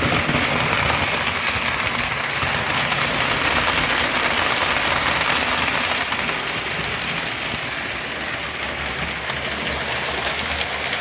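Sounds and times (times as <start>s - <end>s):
model train wheels rattling on track: 0.0s - 11.0s.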